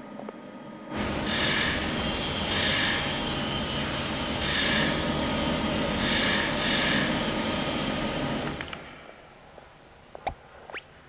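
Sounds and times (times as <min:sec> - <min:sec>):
workshop machines running: 0:00.0 - 0:09.1.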